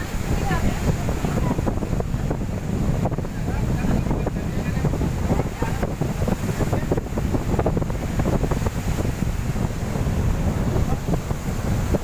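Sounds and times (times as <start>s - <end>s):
waves breaking on shore: 0.0s - 12.0s
wind buffeting microphone: 0.0s - 12.0s.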